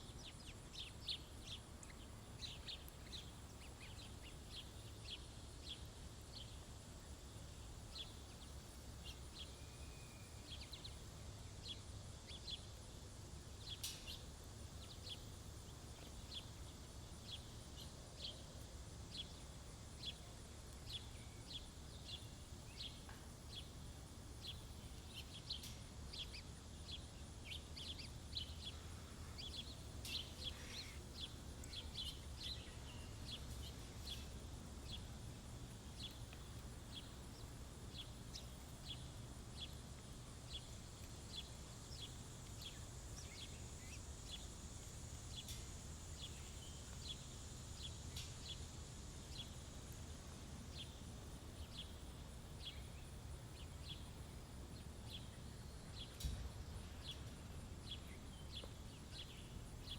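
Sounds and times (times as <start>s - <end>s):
faint low hum: 0.0s - 59.9s
small birds chirping: 0.0s - 59.9s.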